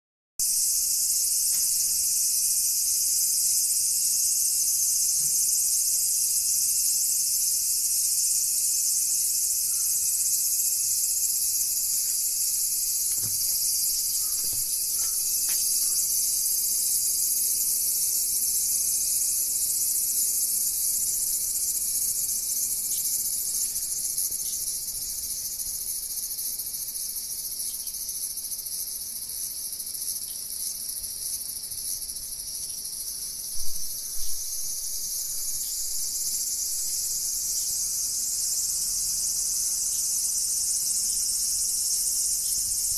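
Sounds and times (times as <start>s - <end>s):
cicada shrill drone: 0.4s - 28.8s, 31.4s - 42.9s.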